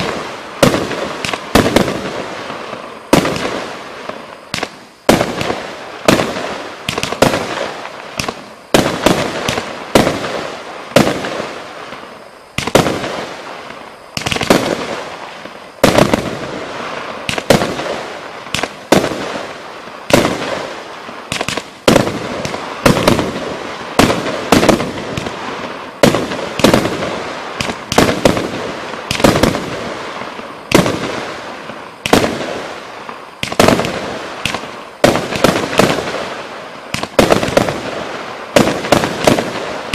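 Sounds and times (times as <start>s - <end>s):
firework shots banging: 0.0s - 12.0s, 12.6s - 31.4s, 32.0s - 39.9s.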